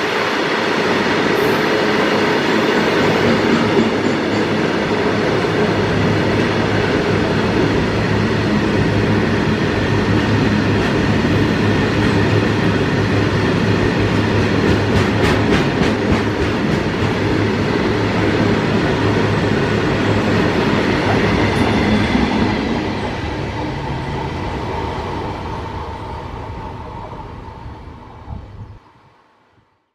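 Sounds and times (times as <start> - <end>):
freight train rolling past: 0.0 - 29.2.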